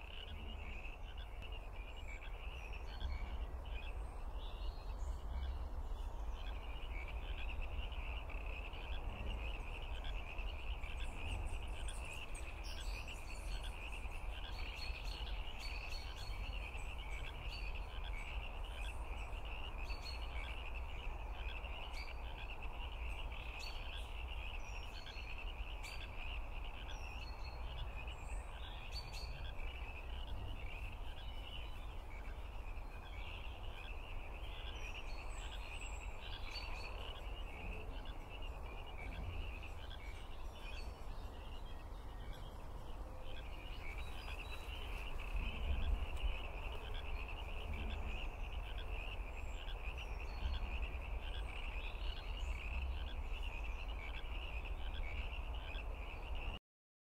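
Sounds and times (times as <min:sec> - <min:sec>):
frogs calling: 0:00.0 - 0:56.6.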